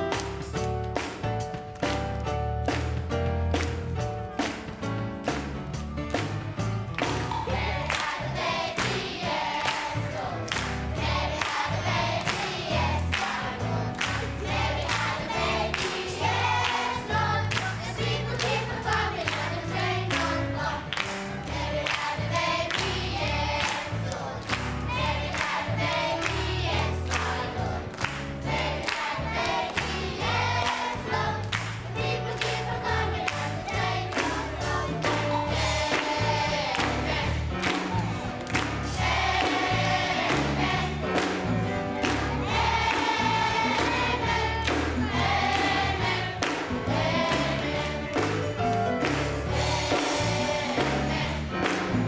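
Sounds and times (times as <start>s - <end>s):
hand-clapping on the beat: 0.0s - 52.0s
children's choir singing: 7.3s - 52.0s.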